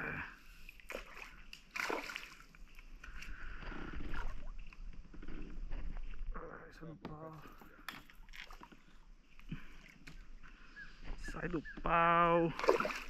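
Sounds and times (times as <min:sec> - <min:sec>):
water splashing and sloshing: 0:00.0 - 0:06.3, 0:07.3 - 0:11.2, 0:12.3 - 0:13.0.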